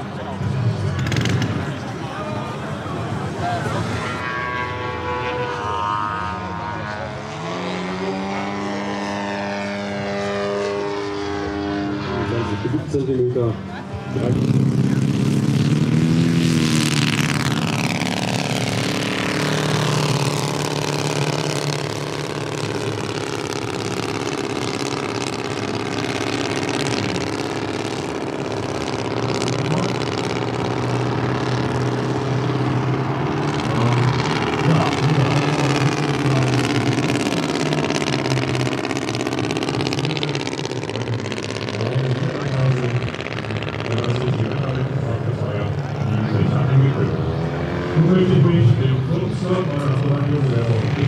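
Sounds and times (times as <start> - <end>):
model airplane engine and propeller: 0.0 - 51.0.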